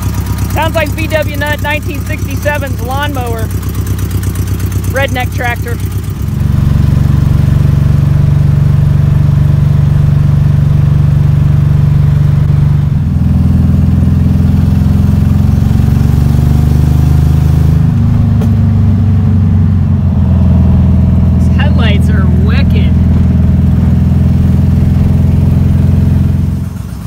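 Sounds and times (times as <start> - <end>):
loud low engine exhaust drone: 0.0 - 27.0.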